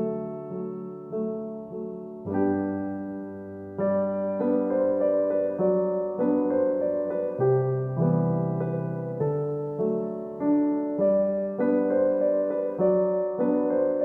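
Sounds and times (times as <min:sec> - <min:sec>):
gentle solo piano piece: 0:00.0 - 0:14.0.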